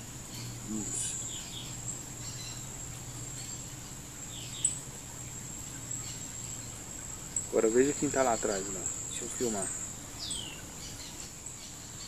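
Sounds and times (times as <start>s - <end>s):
high-pitched insect trill: 0.0s - 12.0s.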